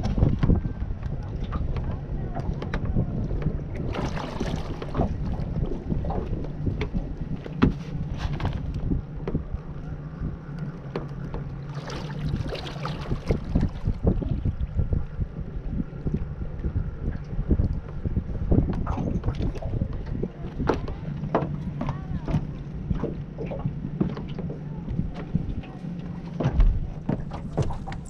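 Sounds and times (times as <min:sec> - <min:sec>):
water slapping against boat hull: 0:00.0 - 0:28.0
wind buffeting microphone: 0:00.0 - 0:28.0.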